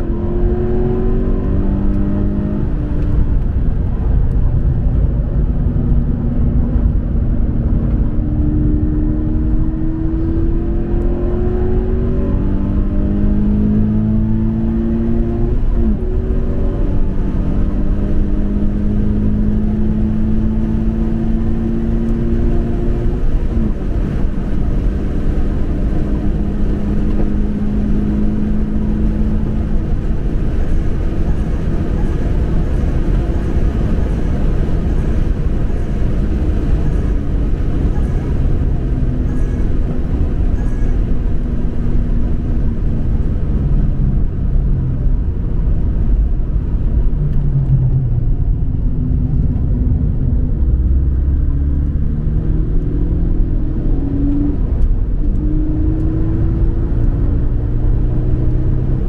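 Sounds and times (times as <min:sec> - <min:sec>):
car engine running: 0:00.0 - 0:59.0
road noise rumble: 0:00.0 - 0:59.0.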